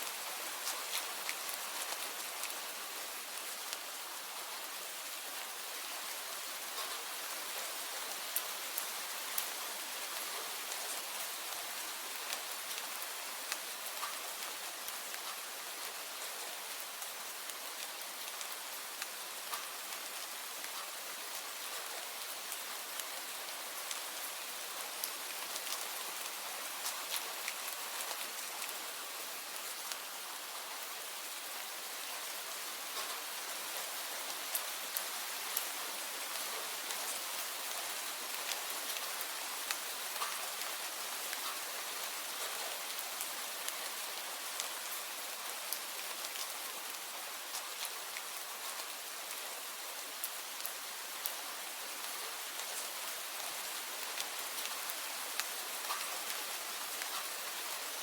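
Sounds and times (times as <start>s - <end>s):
raindrops ticking on a surface: 0.0s - 58.0s
steady rain hiss: 0.0s - 58.0s.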